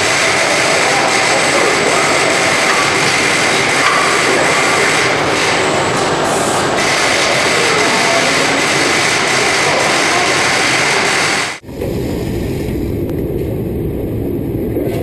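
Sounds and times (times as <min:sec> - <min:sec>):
factory machinery whirring: 0:00.0 - 0:15.0.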